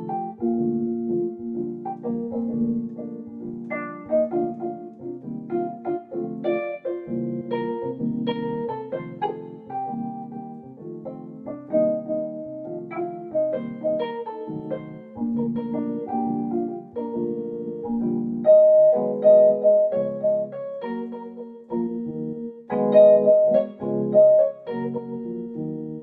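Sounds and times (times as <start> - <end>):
electronic piano keyboard: 0.0 - 26.0.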